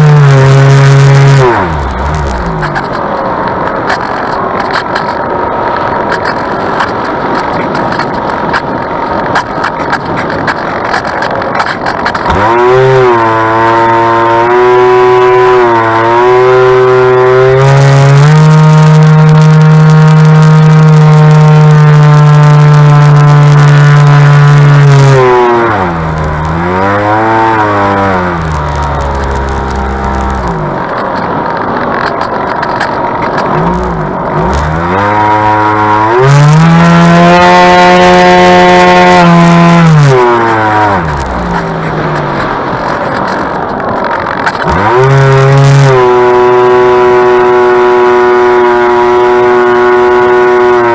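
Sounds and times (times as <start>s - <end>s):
electric motor and propeller whining: 0.0s - 50.9s.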